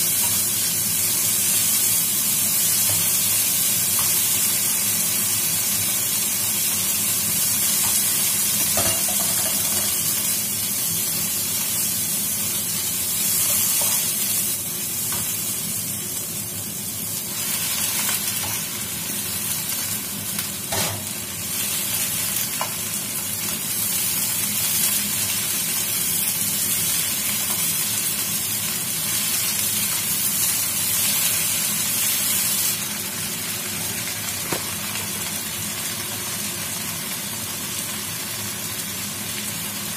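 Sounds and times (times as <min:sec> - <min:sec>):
vegetables sizzling in a wok: 0:00.0 - 0:39.9.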